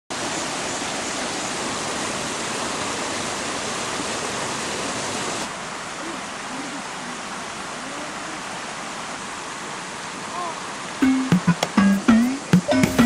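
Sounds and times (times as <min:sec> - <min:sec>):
mountain stream flowing: 0:00.1 - 0:13.0.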